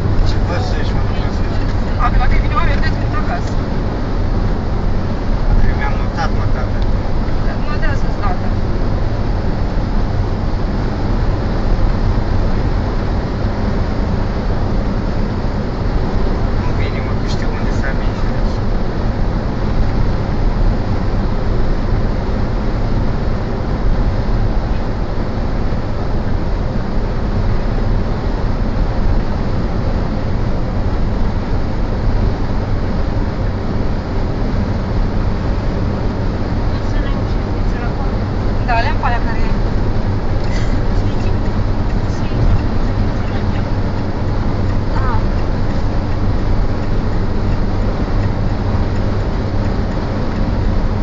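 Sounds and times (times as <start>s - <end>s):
car interior road rumble: 0.0s - 51.0s.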